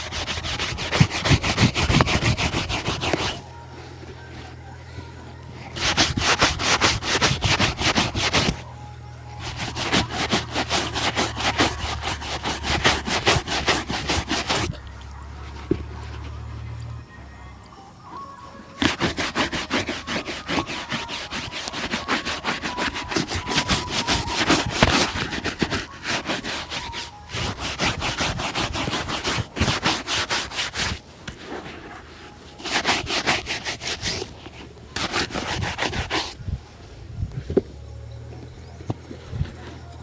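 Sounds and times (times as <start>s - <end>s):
shoe being buffed: 0.0s - 4.6s, 5.6s - 8.7s, 9.4s - 16.4s, 18.8s - 36.4s.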